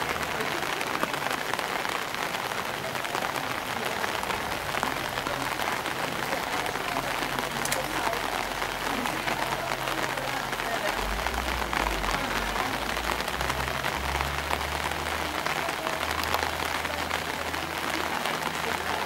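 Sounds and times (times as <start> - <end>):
rain and water on wet pavement: 0.0 - 19.0.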